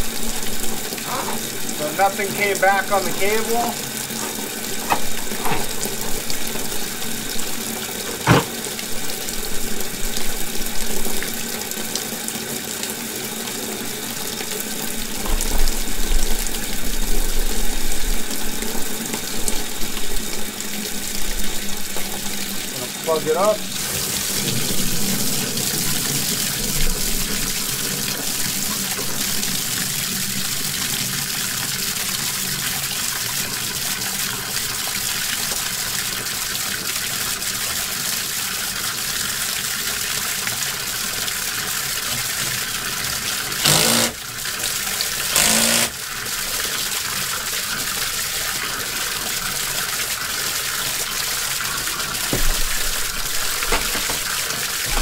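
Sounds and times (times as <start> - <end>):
faucet running into sink: 0.0 - 55.0.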